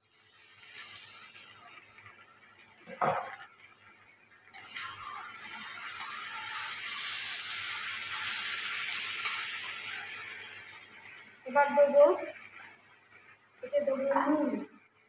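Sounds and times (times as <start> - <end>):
noodles sizzling in a frying pan: 0.0 - 15.0.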